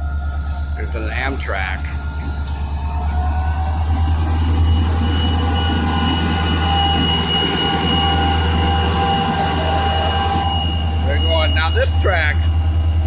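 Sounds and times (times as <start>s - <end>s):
diesel locomotive engine rumble: 0.0s - 13.0s
train wheels squealing on rails: 0.0s - 13.0s.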